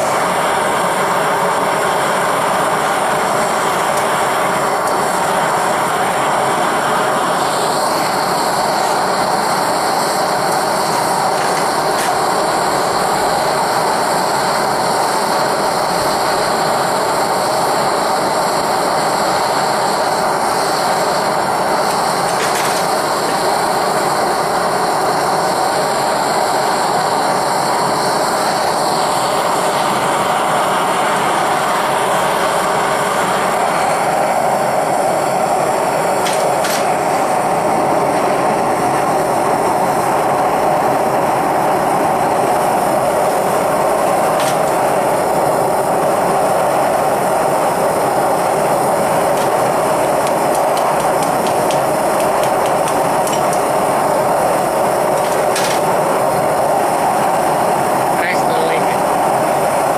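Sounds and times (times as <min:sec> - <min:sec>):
furnace burner rushing: 0:00.0 - 0:59.9.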